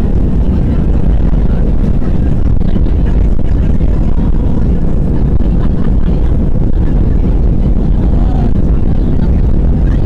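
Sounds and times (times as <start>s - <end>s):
aircraft cabin engine noise: 0.0s - 10.0s.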